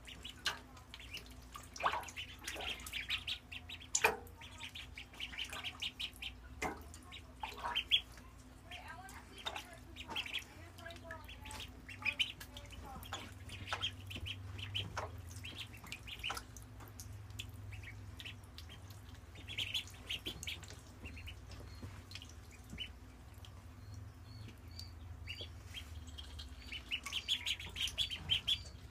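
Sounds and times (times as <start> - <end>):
ducklings peeping: 0.0 - 28.9
low steady hum: 0.0 - 28.9.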